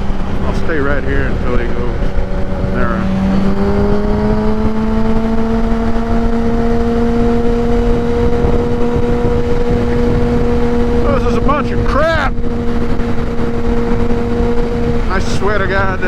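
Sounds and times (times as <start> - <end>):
motorcycle engine revving: 0.0 - 16.0
wind and road rumble: 0.0 - 16.0.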